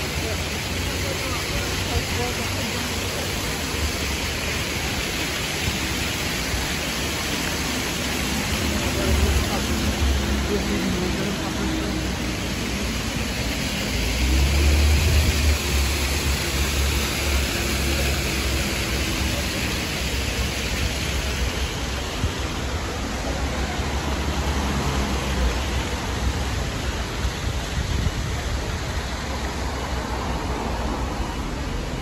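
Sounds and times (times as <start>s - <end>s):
city street traffic noise: 0.0s - 32.0s
vehicles passing with engine rumble: 0.0s - 32.0s.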